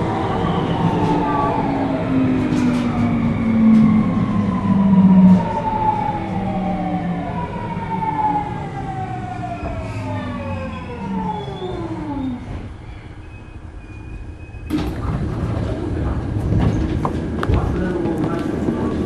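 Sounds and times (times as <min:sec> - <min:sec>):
low rumble of running train: 0:00.0 - 0:19.0.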